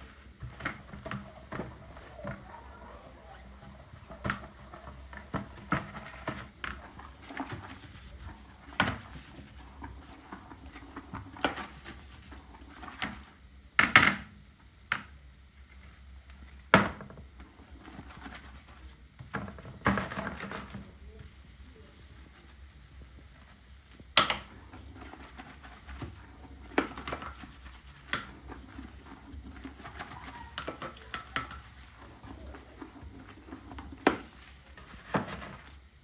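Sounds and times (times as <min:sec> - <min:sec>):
scrubbing: 0:00.0 - 0:13.4, 0:15.6 - 0:36.0.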